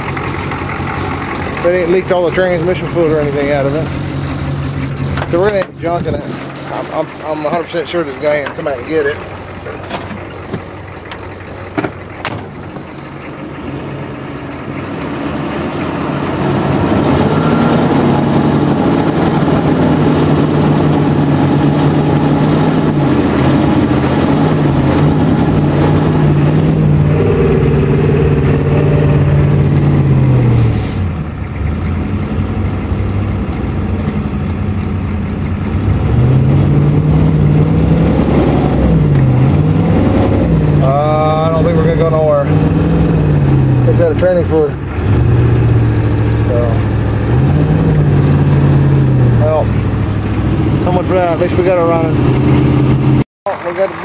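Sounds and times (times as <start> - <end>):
diesel van engine running: 0.0 - 54.0.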